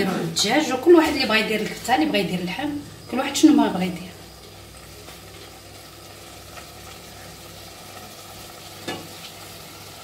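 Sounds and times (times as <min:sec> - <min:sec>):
chicken and onion sizzling in oil: 0:00.0 - 0:10.0.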